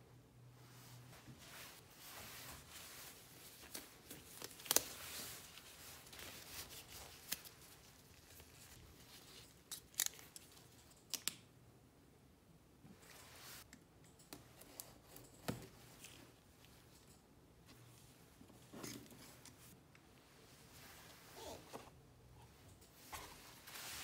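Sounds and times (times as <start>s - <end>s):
nitrile gloves rustling: 0.6s - 10.9s, 14.6s - 24.0s.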